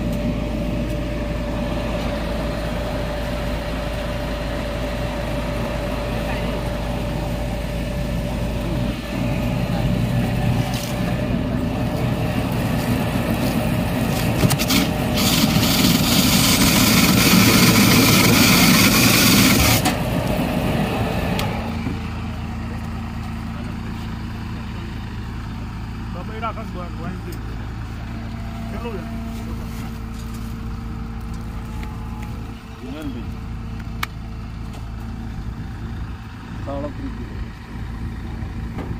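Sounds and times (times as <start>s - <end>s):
baler machine humming: 0.0s - 38.9s.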